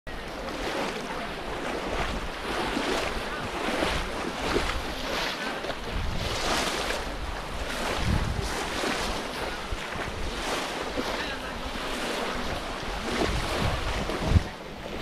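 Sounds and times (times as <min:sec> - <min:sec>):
water splashing and sloshing: 0:00.1 - 0:15.0
wind rumbling on microphone: 0:00.1 - 0:15.0.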